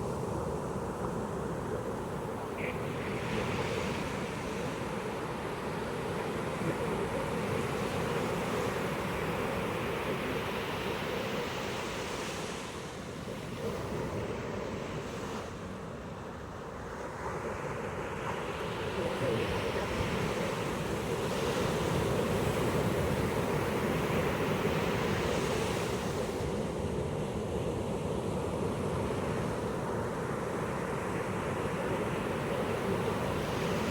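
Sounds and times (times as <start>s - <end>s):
surf waves breaking on beach: 0.0s - 33.9s.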